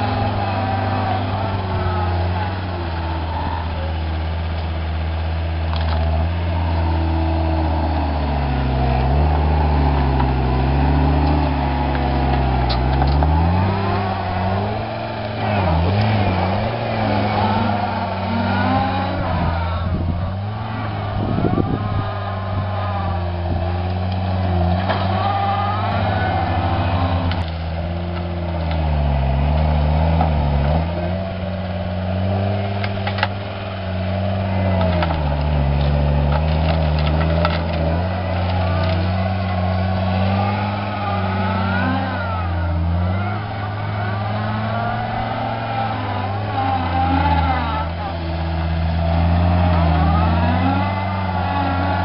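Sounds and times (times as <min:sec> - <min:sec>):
diesel engine under load: 0:00.0 - 0:52.0
hydraulic whine: 0:00.0 - 0:52.0
sharp cracks: 0:00.0 - 0:52.0.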